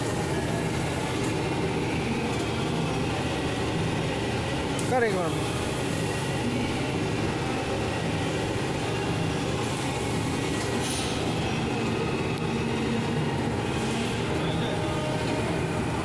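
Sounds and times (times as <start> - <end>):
mixer machine hum: 0.0 - 16.0.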